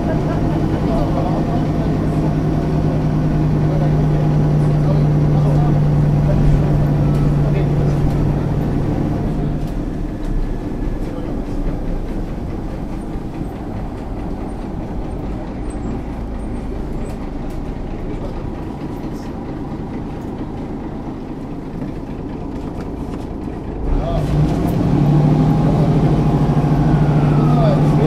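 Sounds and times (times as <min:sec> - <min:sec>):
bus body and fittings rattling: 0:00.0 - 0:24.9
diesel engine rumble: 0:00.0 - 0:28.0.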